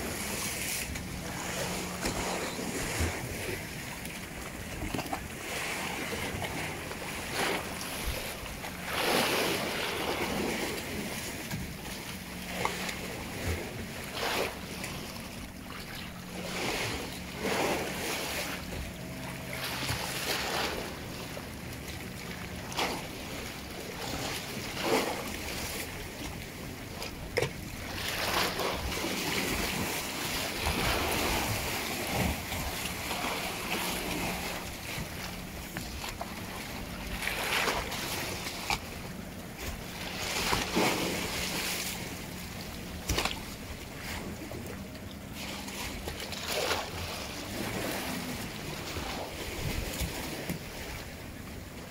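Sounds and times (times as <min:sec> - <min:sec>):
steady low hum: 0:00.0 - 0:51.9
waves splashing against boat hull: 0:00.0 - 0:51.9.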